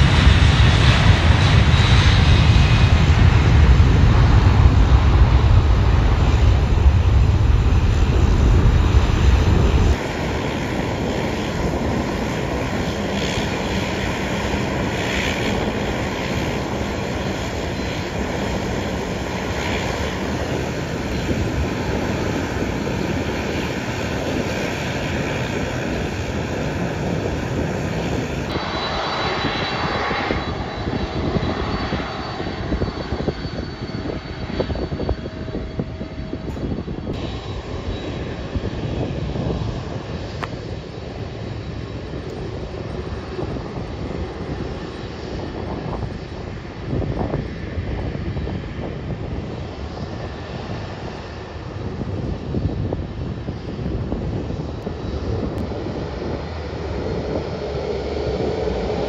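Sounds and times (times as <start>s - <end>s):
distant jet engines at takeoff: 0.0s - 59.0s
jet engines rumbling at taxi: 0.0s - 59.0s.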